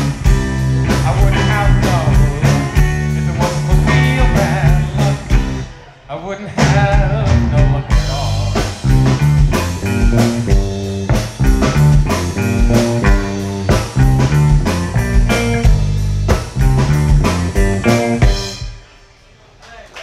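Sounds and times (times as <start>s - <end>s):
drum kit steady beat: 0.0s - 5.7s, 6.5s - 19.2s
electric guitars: 0.0s - 5.8s, 6.6s - 18.9s
bass guitar line: 0.0s - 19.0s.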